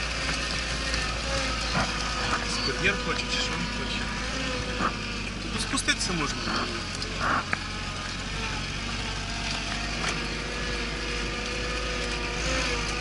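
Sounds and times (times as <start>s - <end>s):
steady whine: 0.0s - 13.0s
vehicle engine running slowly: 0.0s - 13.0s.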